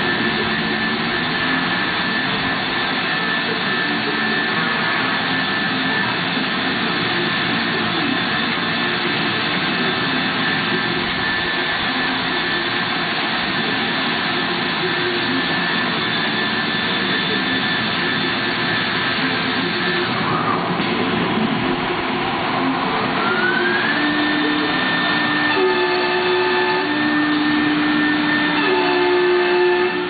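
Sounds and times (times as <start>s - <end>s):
machine rushing with high whine: 0.0s - 30.0s.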